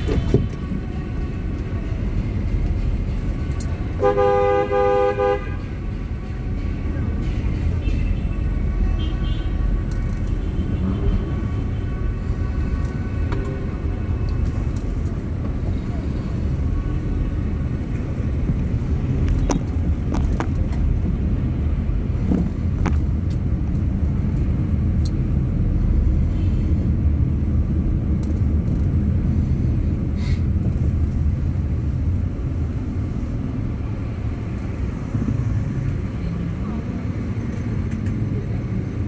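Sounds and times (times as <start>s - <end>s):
low rumble of road traffic: 0.0s - 39.0s.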